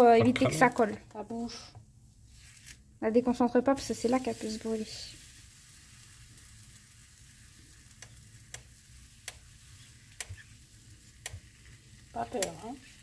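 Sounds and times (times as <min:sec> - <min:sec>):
batter sizzling on hot plate: 0:00.0 - 0:13.0.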